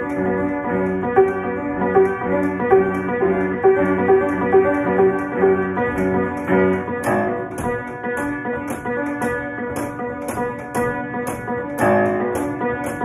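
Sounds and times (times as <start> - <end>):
untuned piano playing quick notes: 0.0 - 13.0.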